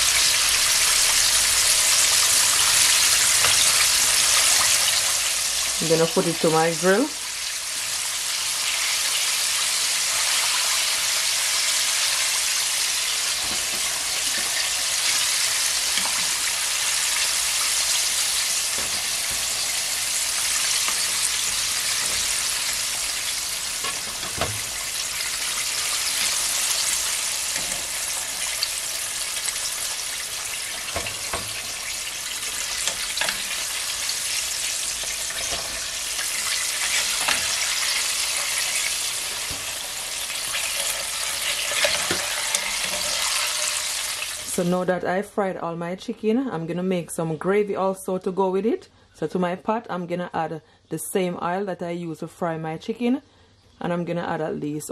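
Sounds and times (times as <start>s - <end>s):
deep-frying oil sizzling: 0.0s - 44.7s.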